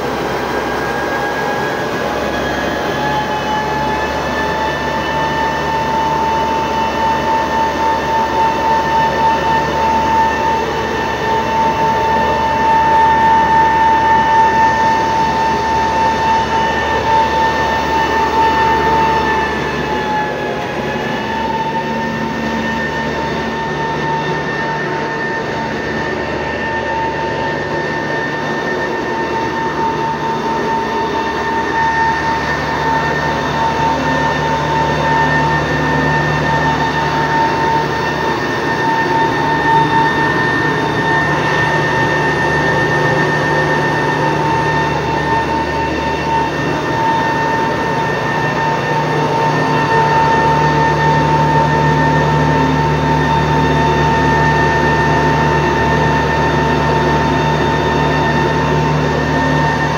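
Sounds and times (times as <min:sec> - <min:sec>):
blower high whine: 0:00.0 - 0:59.9.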